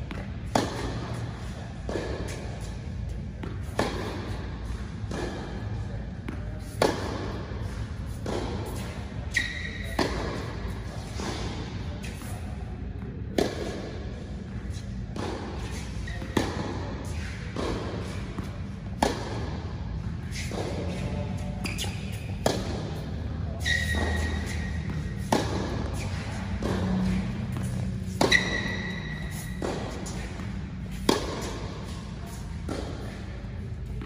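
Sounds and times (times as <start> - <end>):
racket hitting tennis ball: 0.0 - 34.0
tennis balls bouncing on court: 0.0 - 34.0.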